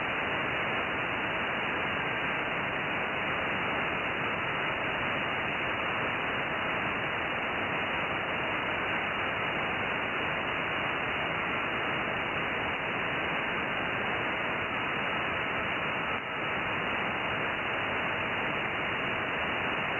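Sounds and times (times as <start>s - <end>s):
faint radio signal tones: 0.0s - 19.9s
radio receiver hiss: 0.0s - 19.9s.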